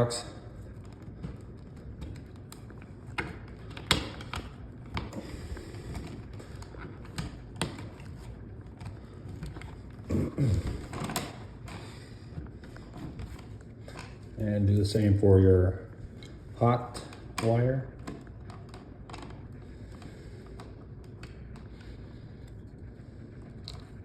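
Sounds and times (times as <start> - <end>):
wires clicking and tapping: 0.0 - 14.3, 16.1 - 24.0.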